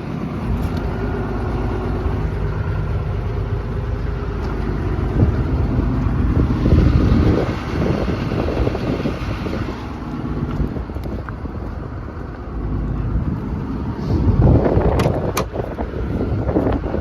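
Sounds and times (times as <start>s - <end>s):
diesel engine idling: 0.0s - 17.0s
wind buffeting microphone: 0.0s - 17.0s.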